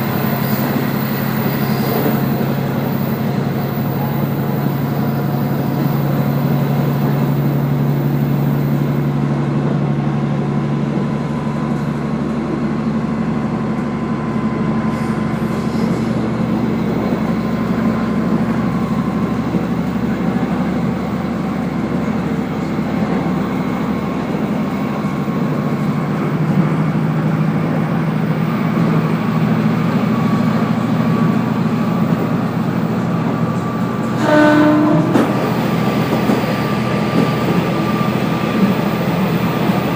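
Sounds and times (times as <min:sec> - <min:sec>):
train engine drone: 0:00.0 - 0:39.9.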